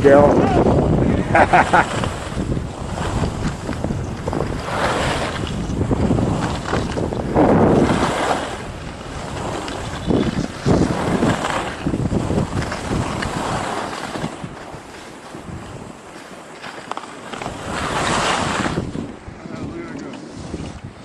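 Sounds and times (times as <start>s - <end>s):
strong wind buffeting microphone: 0.0s - 16.4s, 17.3s - 21.0s.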